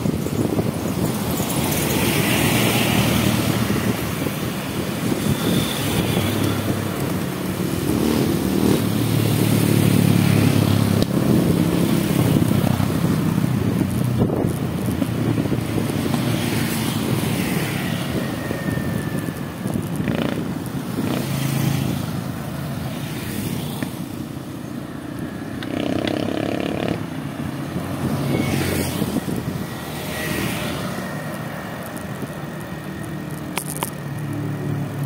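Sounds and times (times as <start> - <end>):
passing vehicles: 0.0 - 35.0
vehicle engine rumble: 0.0 - 35.0.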